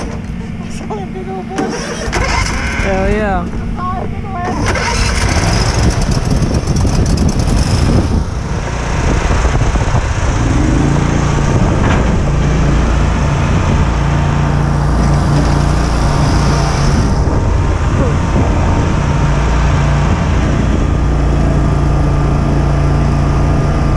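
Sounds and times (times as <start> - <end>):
riding mower engines running: 0.0 - 23.9.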